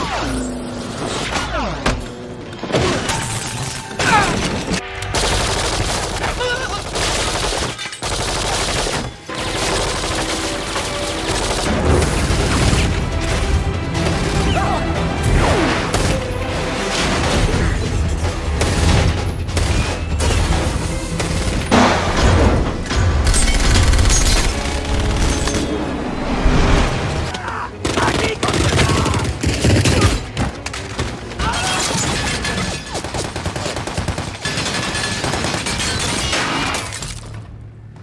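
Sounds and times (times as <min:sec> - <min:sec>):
dramatic film score: 0:00.0 - 0:38.0.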